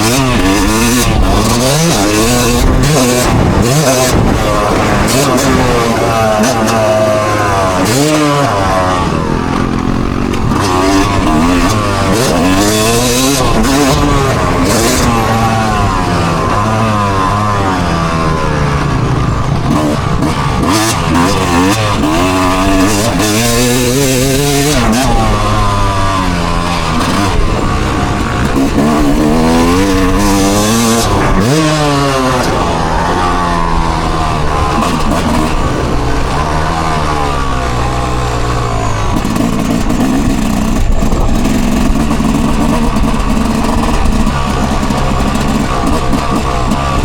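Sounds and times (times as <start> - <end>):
vehicle engine revving: 0.0 - 47.0.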